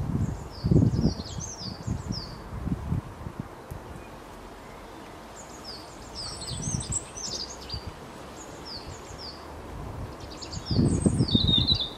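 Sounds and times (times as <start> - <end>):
songbirds chirping: 0.0 - 11.9.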